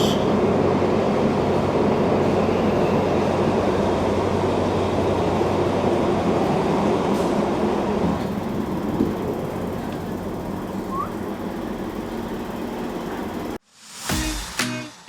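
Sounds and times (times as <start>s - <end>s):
diesel train rumbling: 0.0s - 13.6s.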